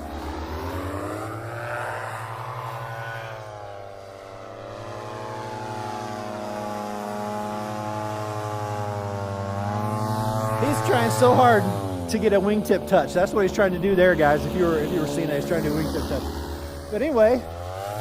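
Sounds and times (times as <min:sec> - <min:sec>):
paramotor engine and propeller: 0:00.0 - 0:18.0.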